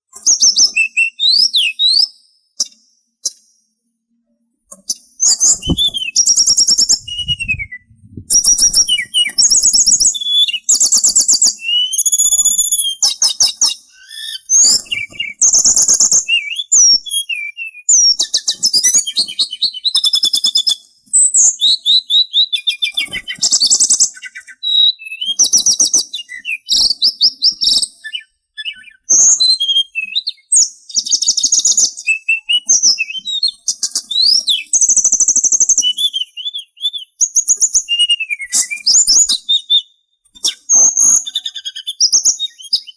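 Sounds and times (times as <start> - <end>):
songbird singing trills and whistles: 0.2 - 3.7, 4.8 - 42.9.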